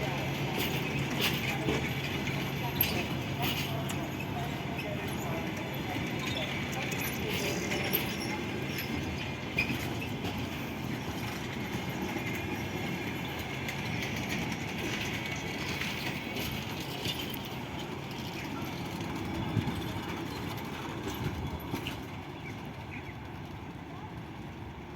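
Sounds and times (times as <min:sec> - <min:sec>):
train coaches rumbling past: 0:00.0 - 0:24.9
wheels clacking over rails: 0:00.0 - 0:24.9.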